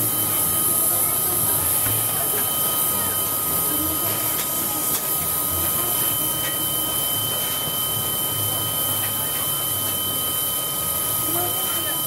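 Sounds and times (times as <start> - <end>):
constant whine: 0.0 - 12.0
steam locomotive hissing: 0.0 - 12.0.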